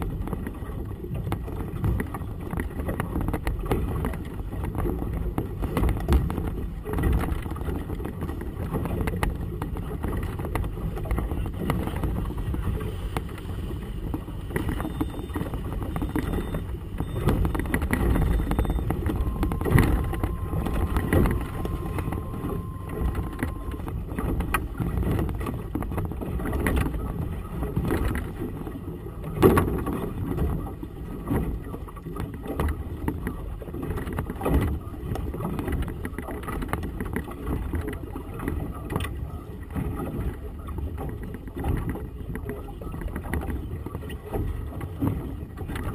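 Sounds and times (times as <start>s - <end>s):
waves slapping hull: 0.0s - 45.9s.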